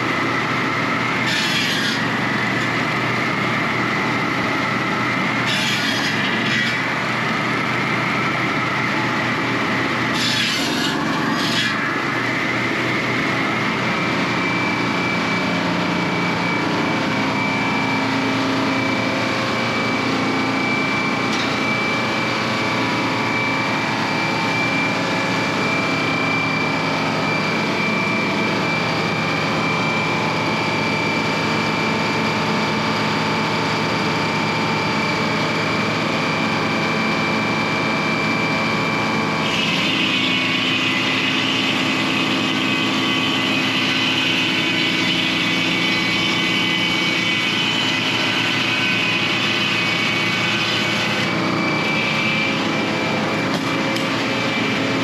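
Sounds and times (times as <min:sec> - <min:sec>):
high saw whine: 0:00.0 - 0:55.0
sawmill engine running under load: 0:00.0 - 0:55.0.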